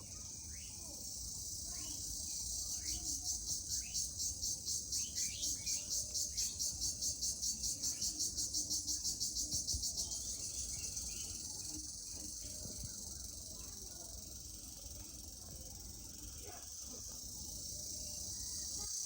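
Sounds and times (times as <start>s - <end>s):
cricket chirping: 0.0s - 19.0s
faint bird chirps: 0.0s - 19.0s.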